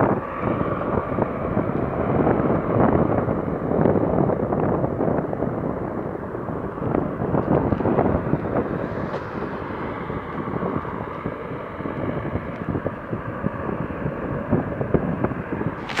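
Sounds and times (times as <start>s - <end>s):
distant helicopter rotor noise: 0.0s - 16.0s
wind buffeting microphone: 0.0s - 16.0s.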